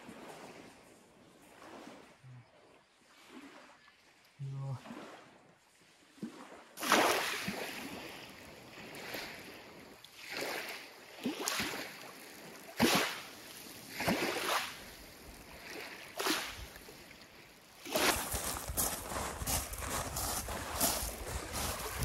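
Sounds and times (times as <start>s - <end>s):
small waves lapping on pebbles: 0.0s - 22.0s.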